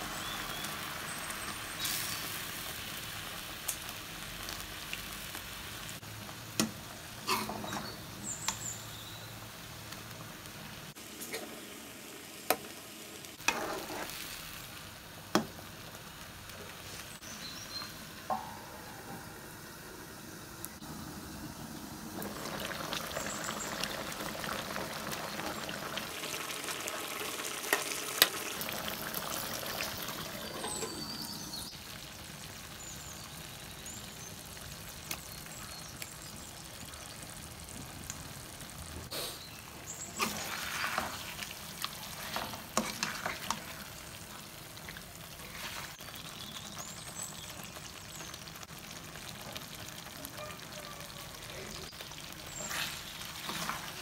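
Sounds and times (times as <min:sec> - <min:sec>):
sauce sizzling and bubbling: 0:00.0 - 0:54.0.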